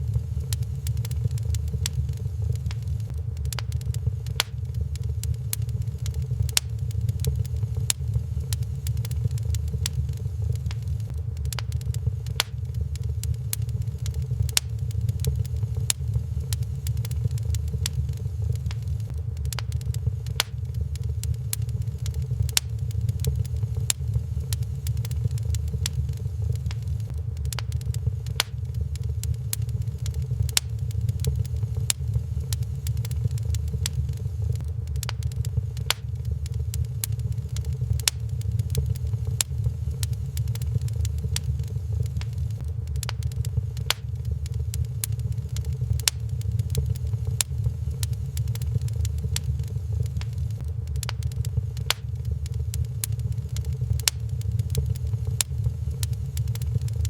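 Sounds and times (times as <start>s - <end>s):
low rumble: 0.0s - 57.0s
wood fire crackling and popping: 0.0s - 57.0s.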